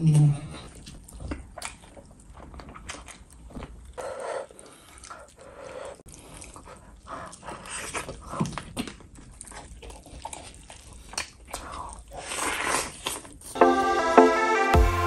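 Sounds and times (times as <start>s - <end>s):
wet chewing: 0.5s - 13.6s.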